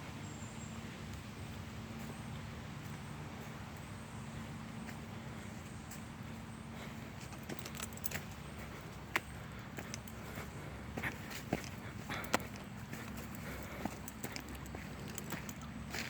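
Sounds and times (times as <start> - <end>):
footsteps on outdoor path: 0.1 - 16.0.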